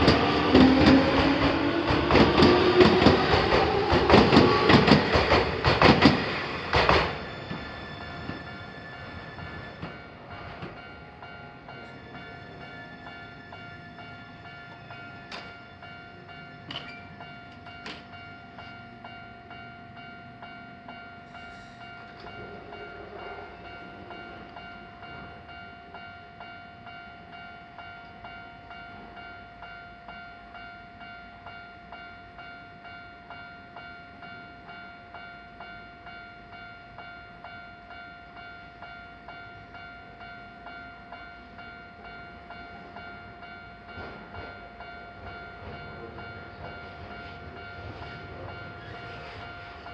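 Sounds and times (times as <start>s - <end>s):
train rumbling: 0.0s - 33.4s, 34.2s - 49.9s
level-crossing electronic bell: 7.2s - 49.9s.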